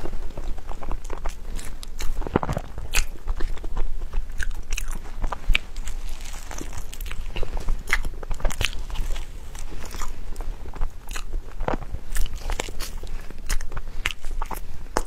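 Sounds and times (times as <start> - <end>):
dessert being bitten and chewed: 0.0 - 15.0
wet mouth clicks and crunches: 0.6 - 15.0.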